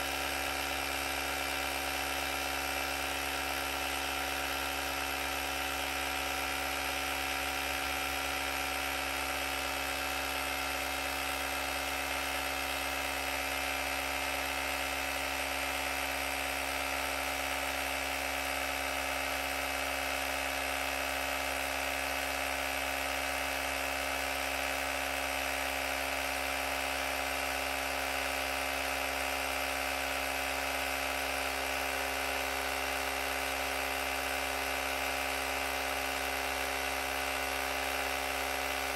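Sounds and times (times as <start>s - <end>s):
electric air compressor buzzing: 0.0s - 38.9s.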